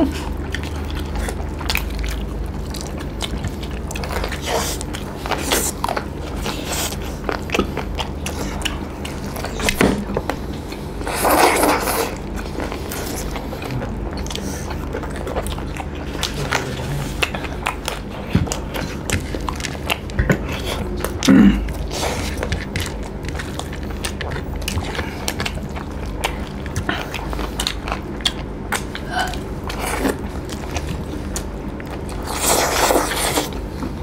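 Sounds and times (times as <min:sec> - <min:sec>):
low hum: 0:00.0 - 0:34.0
people chewing and lip-smacking: 0:00.0 - 0:34.0.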